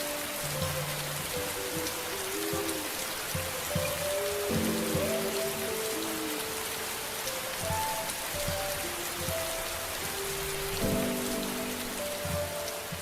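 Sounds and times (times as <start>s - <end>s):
soft ambient music: 0.0s - 13.0s
steady rain hiss: 0.0s - 13.0s.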